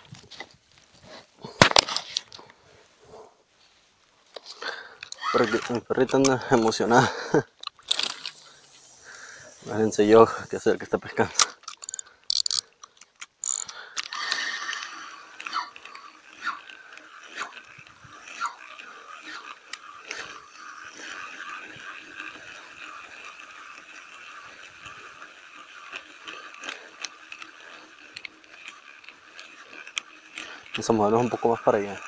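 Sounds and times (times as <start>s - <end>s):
reel clicks: 4.3s - 32.0s
fishing reel whirring: 4.6s - 32.0s.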